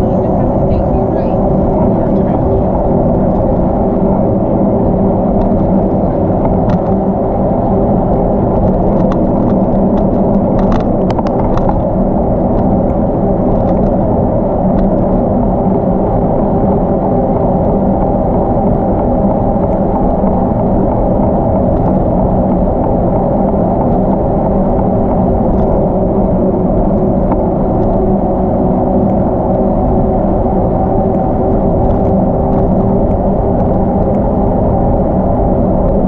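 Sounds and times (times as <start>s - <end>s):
bicycle rolling noise: 0.0s - 36.0s
wind rush on microphone: 0.0s - 36.0s.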